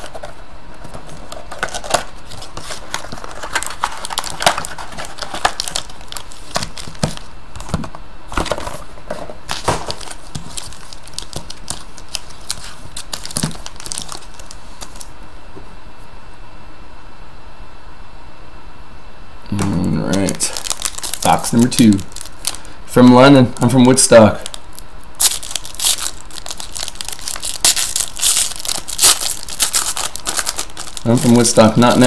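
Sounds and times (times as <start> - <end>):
foil wrappers crinkling: 0.0 - 8.9, 9.5 - 15.1, 20.1 - 22.8, 23.5 - 32.0.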